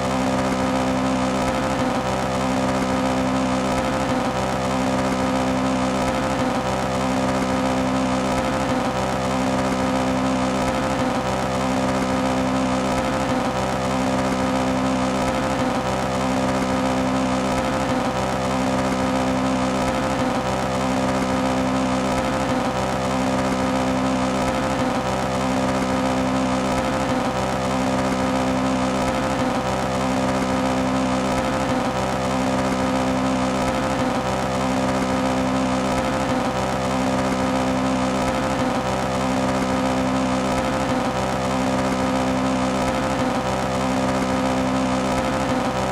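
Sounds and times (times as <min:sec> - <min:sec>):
car engine misfiring at high revs: 0:00.0 - 0:45.9.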